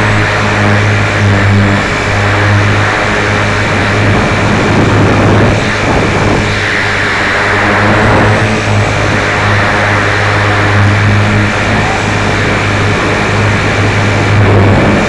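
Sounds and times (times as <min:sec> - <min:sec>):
road noise: 0:00.0 - 0:15.0
vehicle motor humming: 0:00.0 - 0:15.0
wind noise: 0:00.0 - 0:15.0.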